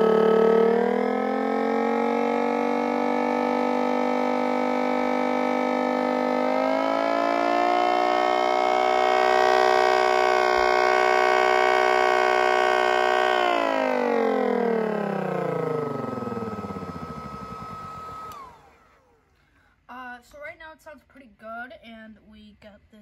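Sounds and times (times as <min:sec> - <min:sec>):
wailing siren tone: 0:00.0 - 0:18.8.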